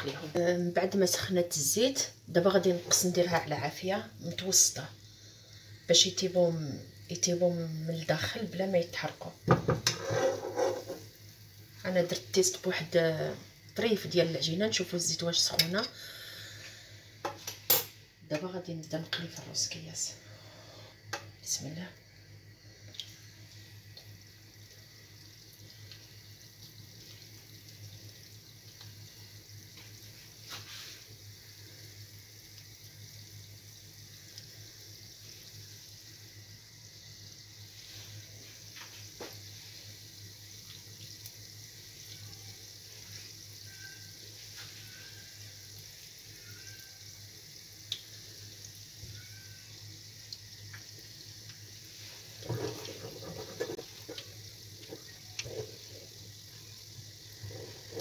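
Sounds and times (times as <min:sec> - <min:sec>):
dough frying in hot oil: 0:00.0 - 0:58.0.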